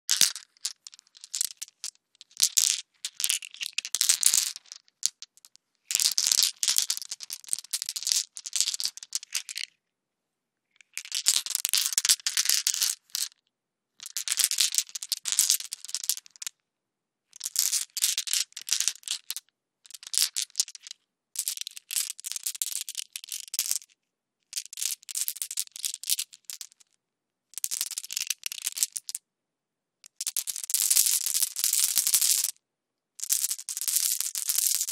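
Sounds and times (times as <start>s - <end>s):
marbles clicking and rattling: 0.1s - 9.7s, 10.8s - 13.3s, 14.0s - 16.5s, 17.4s - 23.9s, 24.5s - 26.8s, 27.6s - 29.2s, 30.0s - 32.6s, 33.2s - 34.9s.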